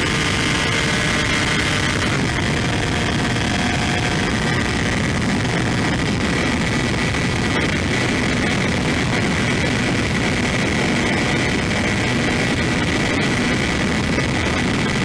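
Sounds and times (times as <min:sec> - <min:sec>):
electric motor and propeller whine: 0:00.0 - 0:15.0
wind rush: 0:00.0 - 0:15.0.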